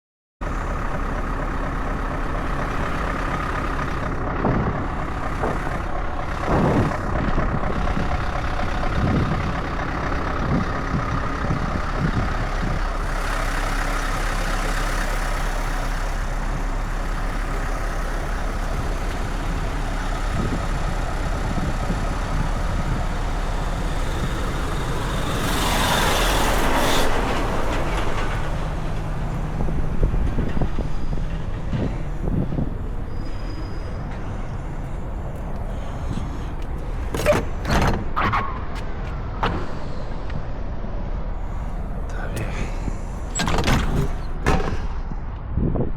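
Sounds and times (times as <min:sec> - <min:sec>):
truck diesel engine running: 0:00.4 - 0:45.9.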